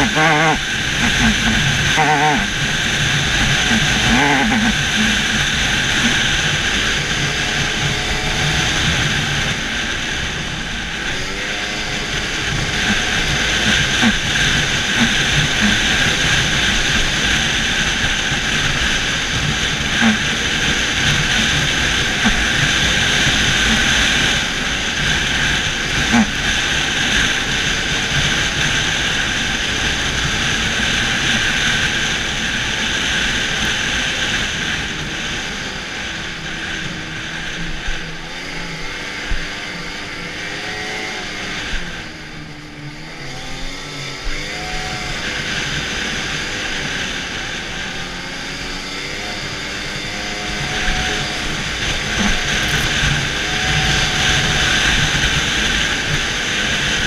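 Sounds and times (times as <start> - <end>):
snowmobile engine and track: 0.0 - 57.0.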